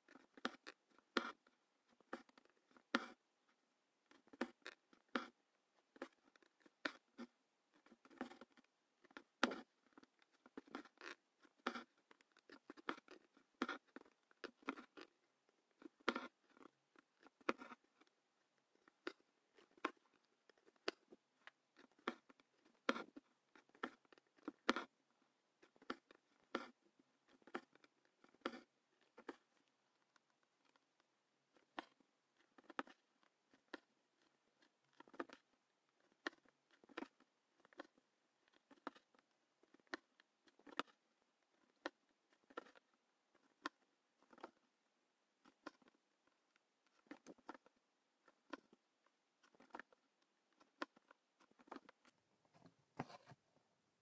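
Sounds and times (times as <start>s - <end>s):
needle and thread through fabric: 0.0s - 53.6s.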